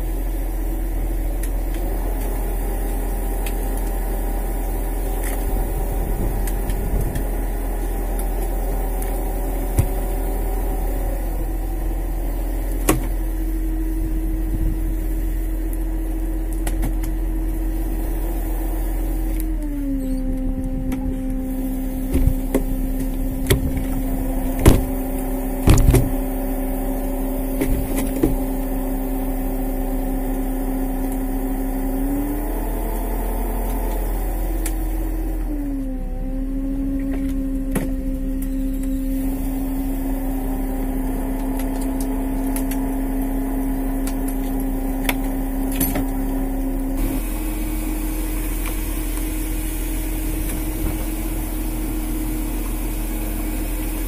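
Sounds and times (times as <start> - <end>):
hydraulic hauler humming: 0.0 - 54.0.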